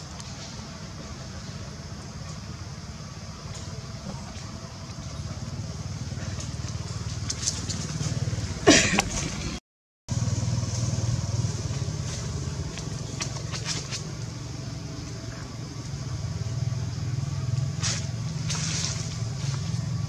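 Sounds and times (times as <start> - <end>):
low engine-like rumble: 0.0 - 20.0.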